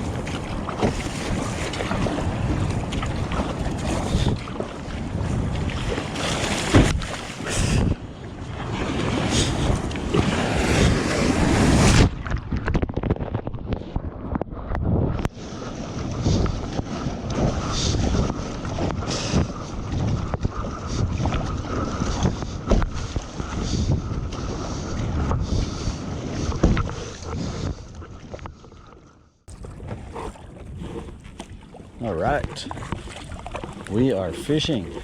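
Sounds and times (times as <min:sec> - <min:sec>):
wind buffeting microphone: 0:00.0 - 0:28.6, 0:29.5 - 0:35.0
water splashing around kayak: 0:00.0 - 0:35.0.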